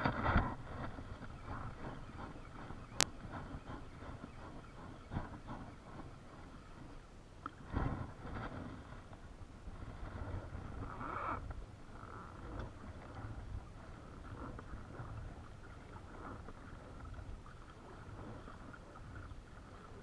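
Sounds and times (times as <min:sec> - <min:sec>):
water against plastic hull: 0:00.0 - 0:20.0
wind rumble on microphone: 0:00.0 - 0:20.0.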